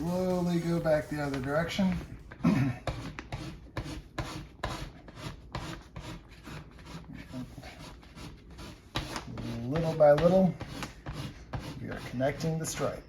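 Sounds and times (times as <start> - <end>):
squeegee scraping on glass: 0.0 - 13.0.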